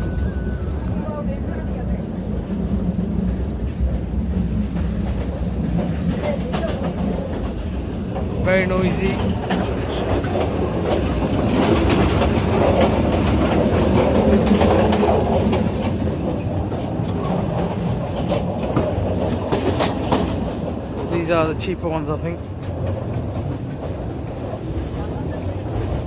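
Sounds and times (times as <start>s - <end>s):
coach rattling: 0.0s - 26.0s
train carriage rumbling: 0.0s - 26.0s
train wheels clacking: 0.0s - 26.0s.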